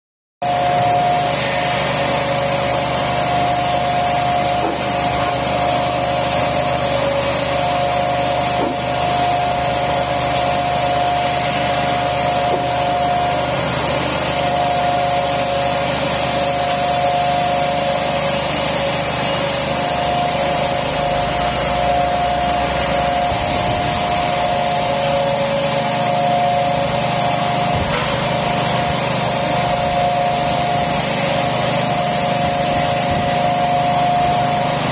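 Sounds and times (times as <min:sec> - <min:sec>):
machine whining tones: 0:00.4 - 0:34.9
machinery hissing: 0:00.5 - 0:34.9.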